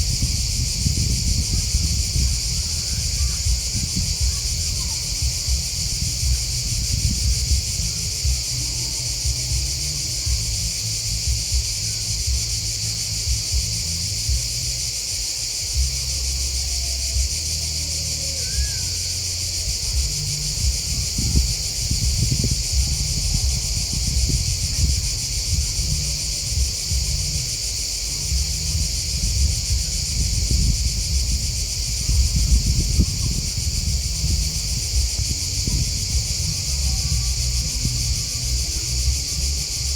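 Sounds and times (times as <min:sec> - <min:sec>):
low rumble: 0:00.0 - 0:17.8, 0:18.8 - 0:39.9
grasshoppers and crickets chirping: 0:00.0 - 0:39.9.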